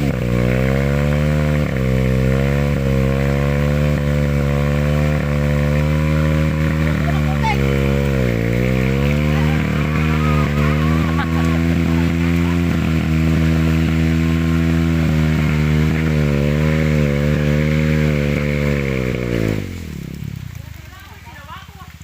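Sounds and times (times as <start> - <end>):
motorcycle engine revving high: 0.0 - 22.0.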